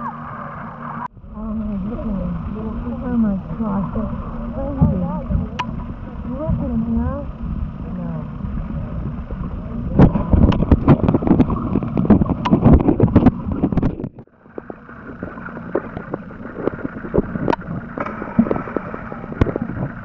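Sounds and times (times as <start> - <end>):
rushing water underwater: 0.0 - 20.0.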